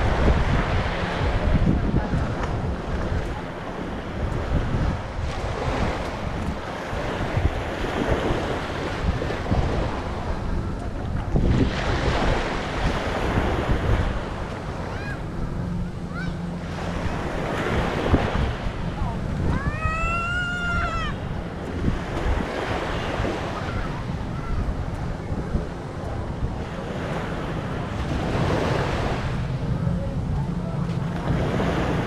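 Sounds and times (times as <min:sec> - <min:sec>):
small waves breaking on shore: 0:00.0 - 0:32.0
wind buffeting microphone: 0:00.0 - 0:32.0.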